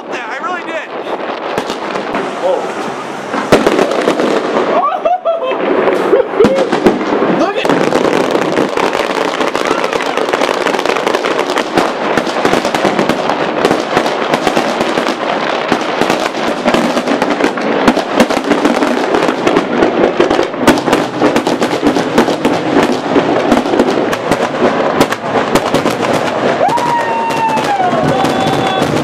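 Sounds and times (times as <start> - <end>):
fireworks cracks and bangs: 0.0 - 29.0.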